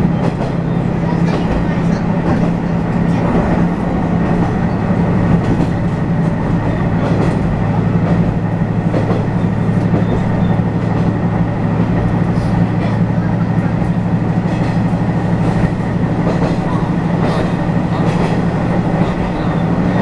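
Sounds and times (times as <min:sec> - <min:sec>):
railcar engine drone: 0:00.0 - 0:20.0
wheels rumbling on rails: 0:00.0 - 0:20.0.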